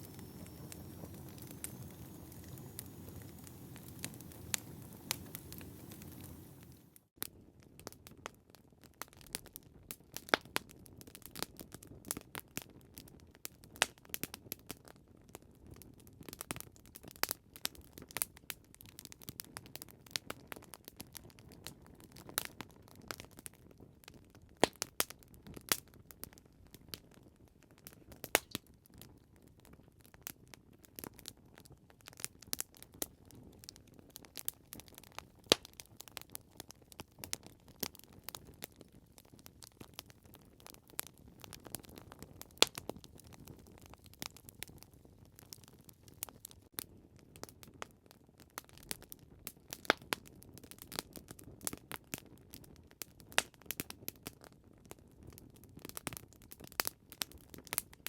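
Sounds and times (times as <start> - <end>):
wood fire crackling: 0.0 - 14.8, 15.8 - 58.0.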